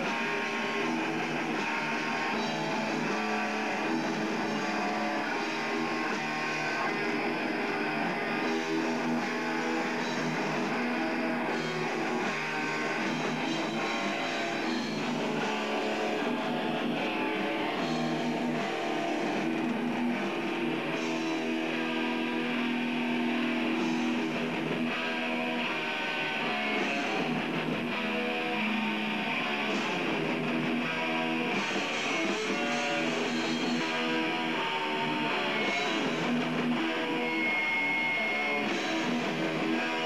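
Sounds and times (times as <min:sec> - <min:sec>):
guitar-driven rock music: 0:00.0 - 0:40.0.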